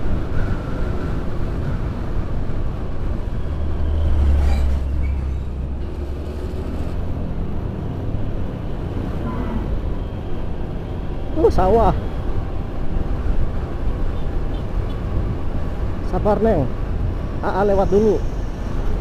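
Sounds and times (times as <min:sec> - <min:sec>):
scooter road and wind noise: 0:00.0 - 0:19.0.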